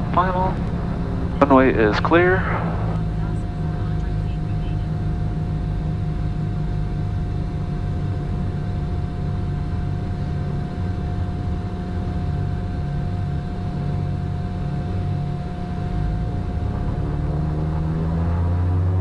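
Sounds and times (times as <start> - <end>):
airplane piston engines droning: 0.0 - 19.0.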